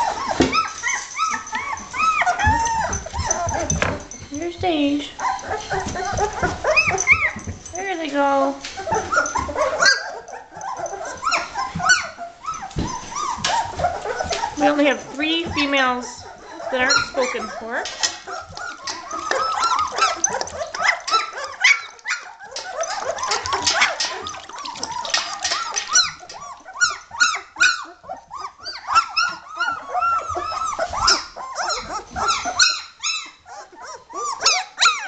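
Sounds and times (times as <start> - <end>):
puppies whining and squeaking: 0.0 - 35.0.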